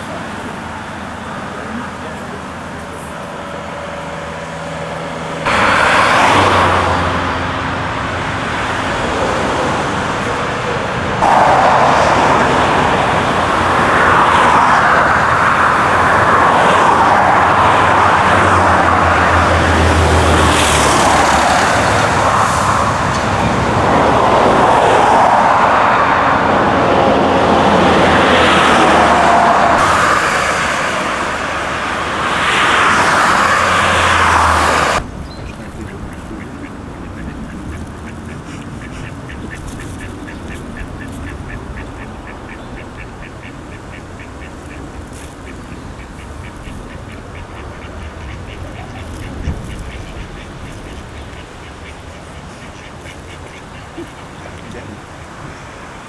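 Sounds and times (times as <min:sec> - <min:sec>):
vehicles passing on road: 0:00.0 - 0:56.0.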